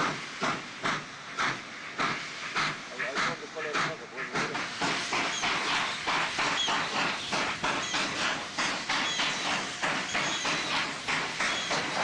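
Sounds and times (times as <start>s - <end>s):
steam hissing from cylinders: 0.0s - 12.0s
steam locomotive chuffing: 0.0s - 12.0s.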